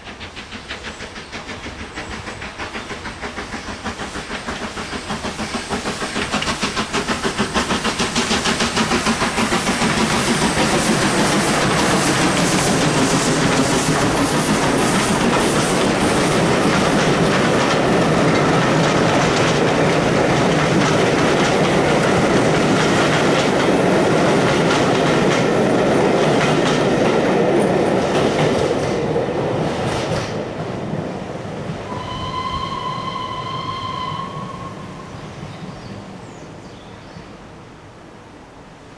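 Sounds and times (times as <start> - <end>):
train coaches clattering over rails: 0.0 - 36.2
steam locomotive exhaust beats: 0.0 - 37.6.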